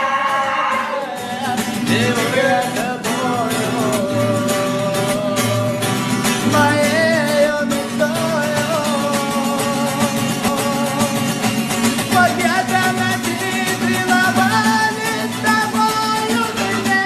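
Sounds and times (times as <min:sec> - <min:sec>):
guitar and steady beat: 0:00.0 - 0:17.0
person singing: 0:00.0 - 0:17.0.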